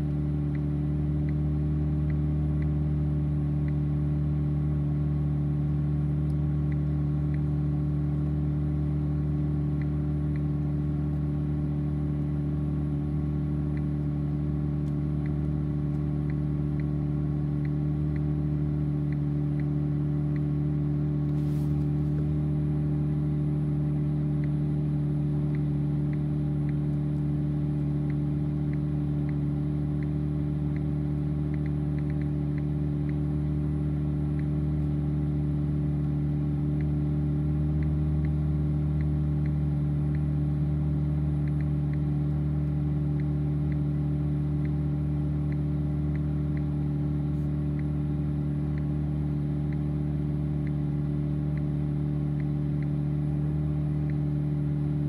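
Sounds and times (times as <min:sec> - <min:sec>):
faint light ticks: 0:00.0 - 0:02.9, 0:03.6 - 0:04.4, 0:06.2 - 0:08.4, 0:09.3 - 0:11.4, 0:13.1 - 0:23.0, 0:24.2 - 0:55.0
car engine idling: 0:00.0 - 0:55.0.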